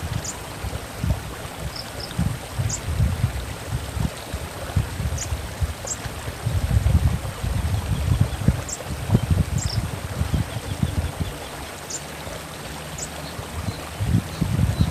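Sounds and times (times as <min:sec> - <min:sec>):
running water rumbling: 0:00.0 - 0:14.9.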